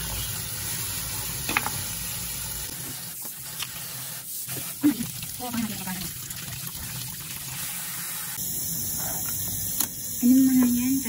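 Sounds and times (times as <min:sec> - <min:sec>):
faucet spray water hissing: 0:00.0 - 0:06.2, 0:07.4 - 0:11.0.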